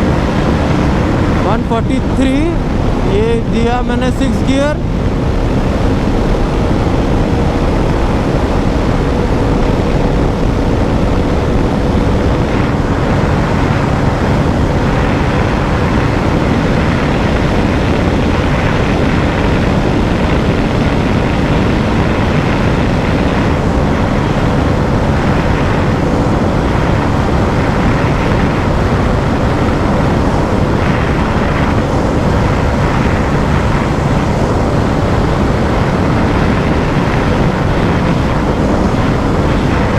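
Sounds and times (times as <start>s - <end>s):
motorcycle engine at high revs: 0.0s - 39.9s
wind noise on microphone: 0.0s - 39.9s.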